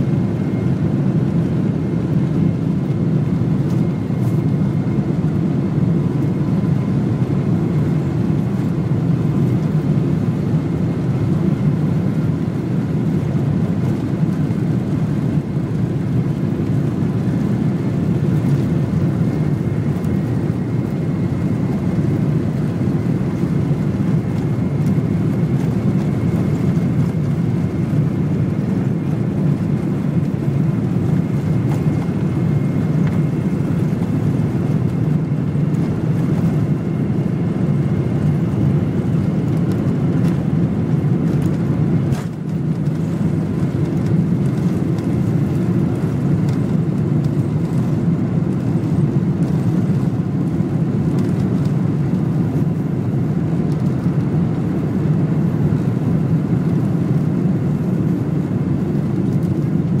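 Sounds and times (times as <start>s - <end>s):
jet engines roaring in cabin: 0.0s - 60.0s.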